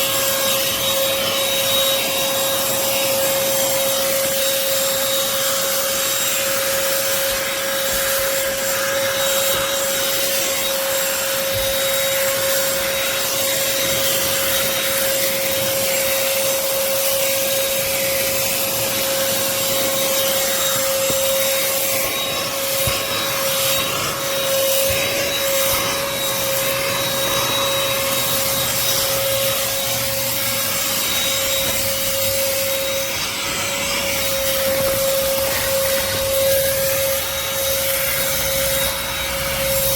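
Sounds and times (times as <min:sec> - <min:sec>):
handheld vacuum running: 0:00.0 - 0:39.9.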